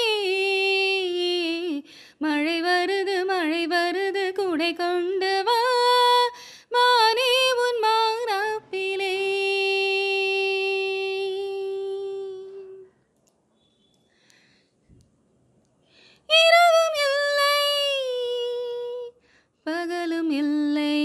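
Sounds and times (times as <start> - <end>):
woman singing unaccompanied: 0.0 - 12.9, 16.3 - 21.0.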